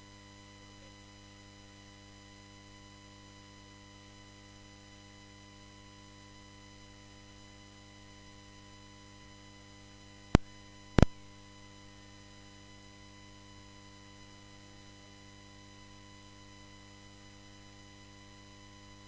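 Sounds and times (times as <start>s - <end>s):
electrical hum with high whine: 0.0s - 19.0s.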